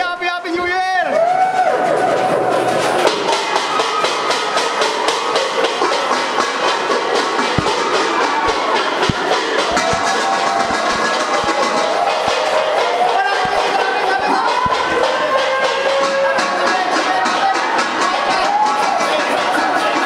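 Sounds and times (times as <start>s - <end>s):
crowd voices: 0.0s - 20.0s
objects banging and rattling: 1.6s - 20.0s.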